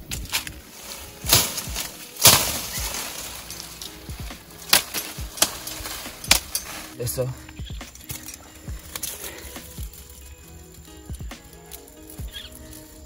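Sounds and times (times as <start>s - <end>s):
branches snapping: 0.0s - 13.0s
faint background music: 0.0s - 13.0s
leaves rustling: 0.0s - 13.0s.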